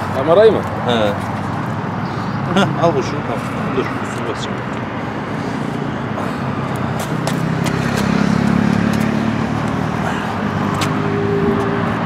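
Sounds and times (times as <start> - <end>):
road traffic hum: 0.0 - 12.0
vehicle passing: 0.0 - 12.0.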